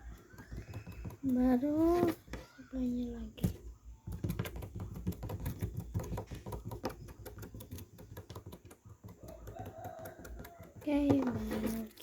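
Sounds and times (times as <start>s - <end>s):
rapid irregular clicking: 0.0s - 2.4s, 3.4s - 12.0s.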